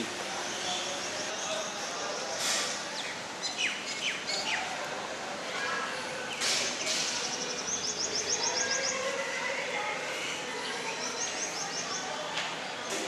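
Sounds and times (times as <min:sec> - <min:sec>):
birds chirping: 0:00.0 - 0:04.9, 0:06.0 - 0:13.0.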